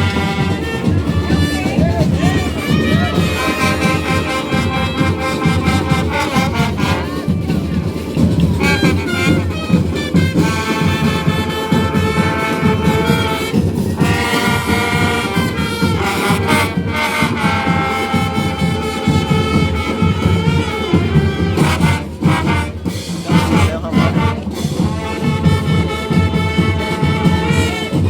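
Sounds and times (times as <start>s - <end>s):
drums: 0.0s - 28.0s
marching band playing: 0.0s - 28.0s.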